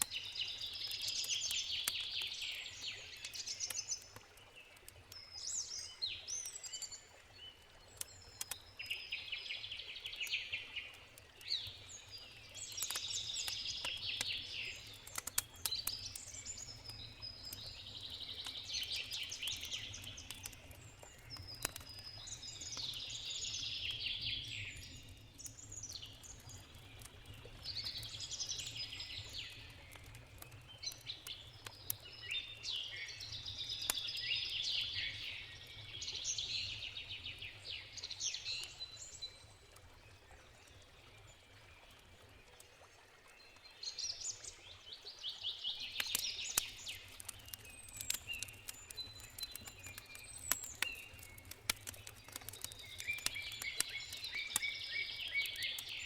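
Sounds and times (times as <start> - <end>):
campfire crackling: 0.0 - 42.9, 45.7 - 56.0.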